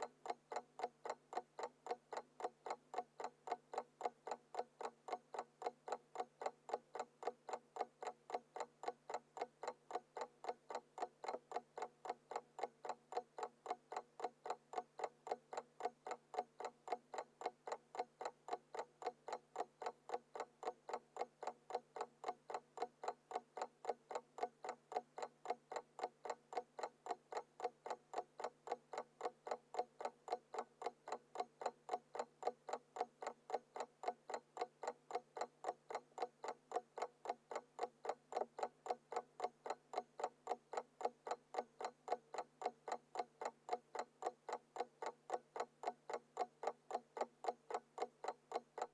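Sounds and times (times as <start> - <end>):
mechanical alarm clock ticking: 0.0 - 48.9.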